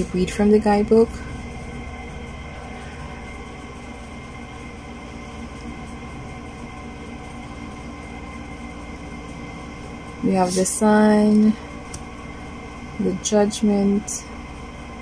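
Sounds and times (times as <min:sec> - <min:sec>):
room noise hum and hiss: 0:00.0 - 0:15.0.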